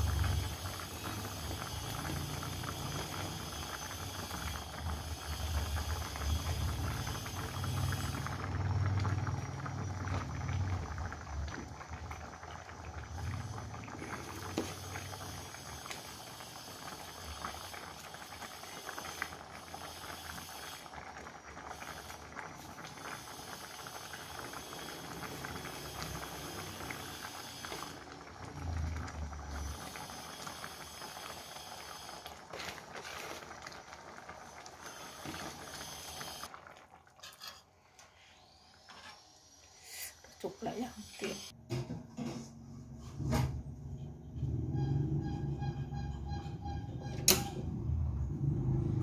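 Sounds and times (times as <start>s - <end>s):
broth bubbling in a wok: 0.0s - 41.6s, 42.9s - 49.0s.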